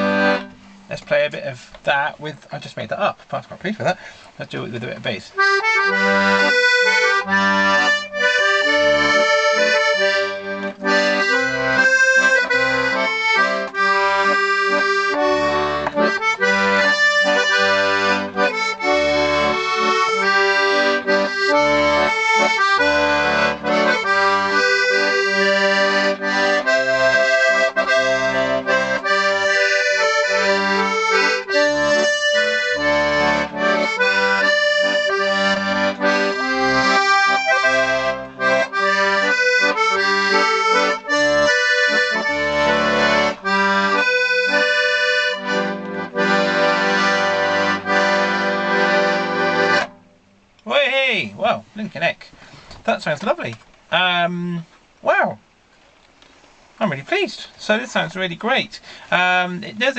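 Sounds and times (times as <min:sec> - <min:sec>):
accordion playing melody: 0:00.0 - 0:50.8, 0:56.8 - 0:59.9.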